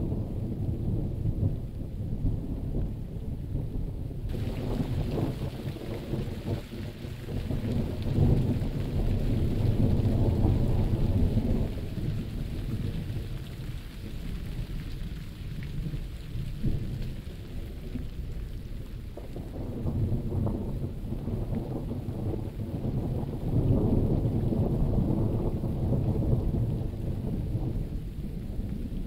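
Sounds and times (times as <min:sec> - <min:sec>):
steady rain: 0:00.0 - 0:29.0
thunder rumbling: 0:00.0 - 0:29.0.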